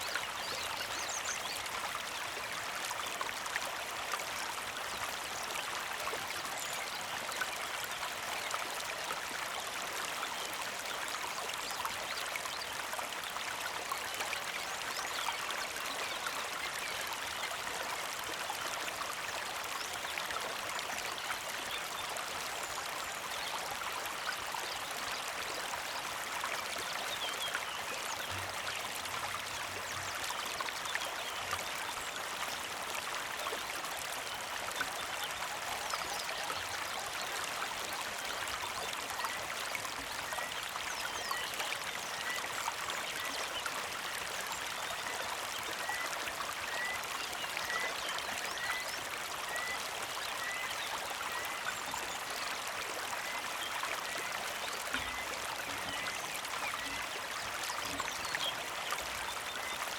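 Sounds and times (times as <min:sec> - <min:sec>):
creek trickling over stones: 0:00.0 - 0:59.9.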